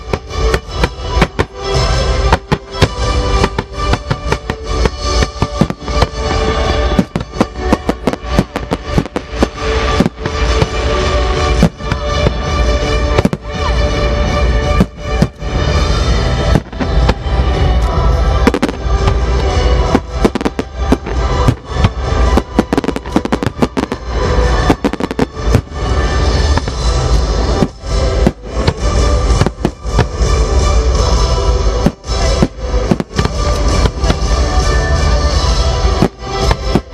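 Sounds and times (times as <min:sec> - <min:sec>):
firework bangs and crackles: 0:00.0 - 0:36.9
loud music: 0:00.0 - 0:36.9.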